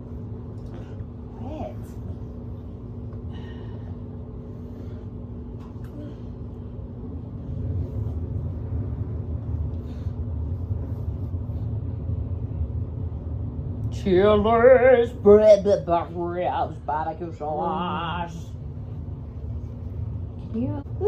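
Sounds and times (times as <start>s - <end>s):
low rumble: 0.0s - 21.0s
steady hum: 0.0s - 21.0s.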